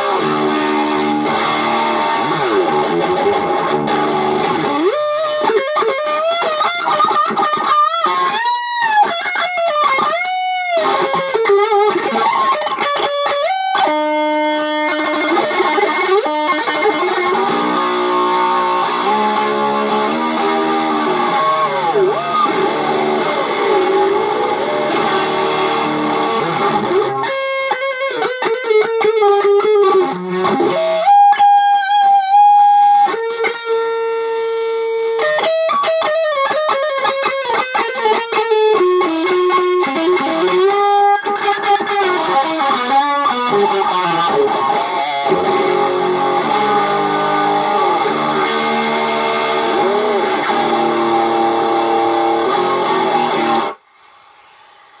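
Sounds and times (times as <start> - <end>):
guitar music with effects: 0.0 - 55.0.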